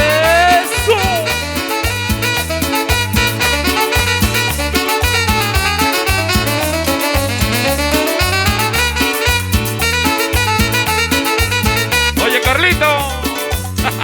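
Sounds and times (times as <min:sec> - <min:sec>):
live cumbia band playing: 0:00.0 - 0:14.0.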